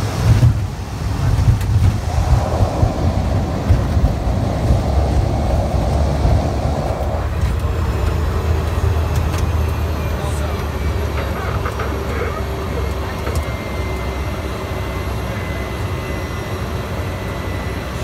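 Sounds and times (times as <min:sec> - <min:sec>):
propeller aircraft engine rumble: 0:00.0 - 0:18.0.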